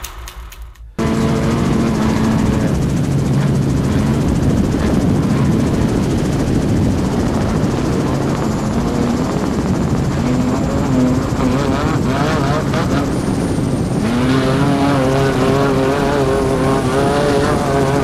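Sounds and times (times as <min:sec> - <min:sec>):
helicopter rotor and engine drone: 0:01.0 - 0:18.0.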